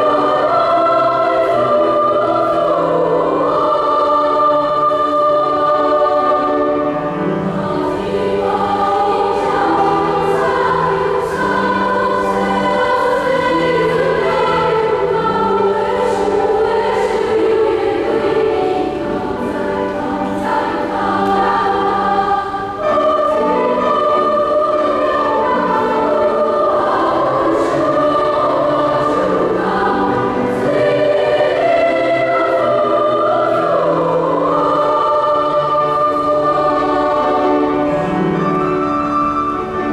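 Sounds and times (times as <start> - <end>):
choir singing sustained chords: 0.0 - 39.9.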